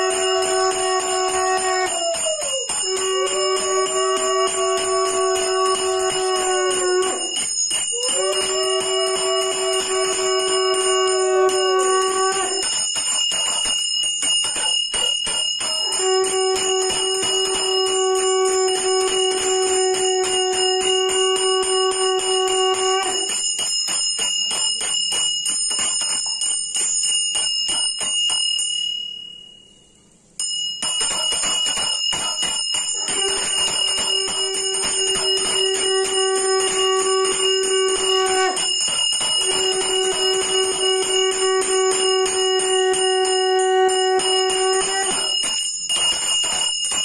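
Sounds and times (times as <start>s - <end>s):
conch shell blowing: 0.0s - 13.7s, 14.4s - 23.5s, 31.1s - 46.6s
hand bell ringing rapidly: 0.0s - 29.5s, 30.4s - 47.0s.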